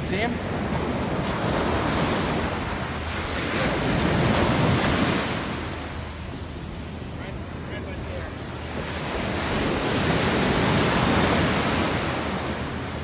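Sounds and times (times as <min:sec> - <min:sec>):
small waves washing on sand: 0:00.0 - 0:13.0
wind rumbling on microphone: 0:00.0 - 0:13.0.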